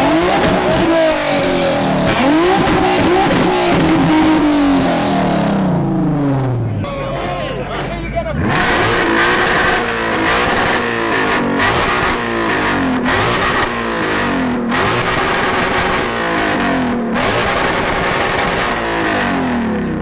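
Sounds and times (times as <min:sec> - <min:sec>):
car engine revving: 0:00.0 - 0:20.0
exhaust crackling: 0:00.0 - 0:20.0.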